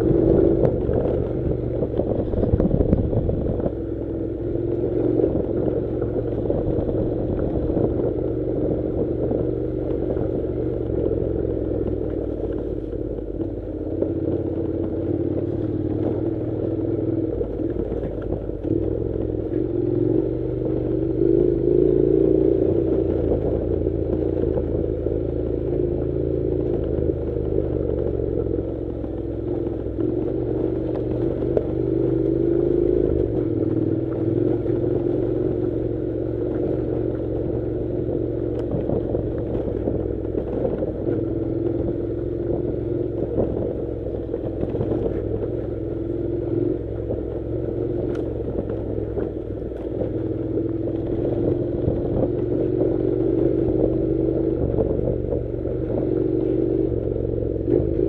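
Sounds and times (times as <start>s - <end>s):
motorcycle engine at low revs: 0.0s - 58.0s.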